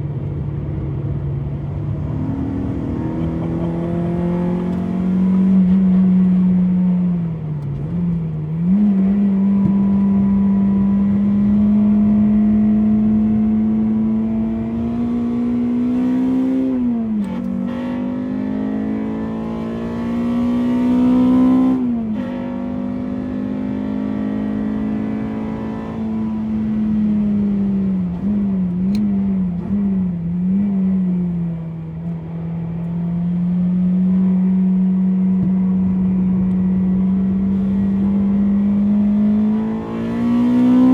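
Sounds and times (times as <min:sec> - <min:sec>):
car engine revving and upshifting: 0:00.2 - 0:40.9.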